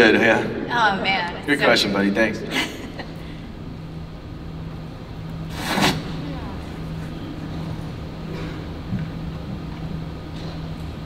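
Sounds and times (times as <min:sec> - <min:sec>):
faint constant hum: 0:00.0 - 0:11.0.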